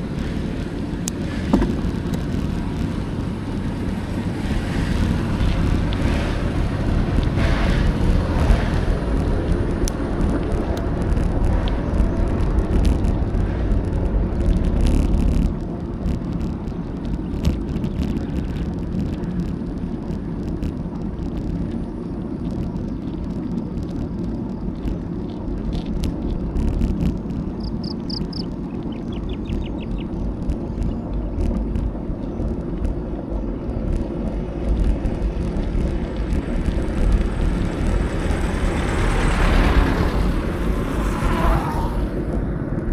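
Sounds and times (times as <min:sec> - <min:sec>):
bicycle tyre rumble on road: 0:00.0 - 0:42.9
wind on microphone: 0:00.0 - 0:42.9.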